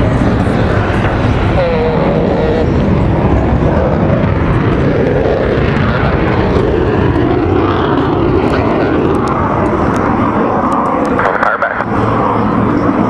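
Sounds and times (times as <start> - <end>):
jet roar flying overhead: 0.0 - 13.0.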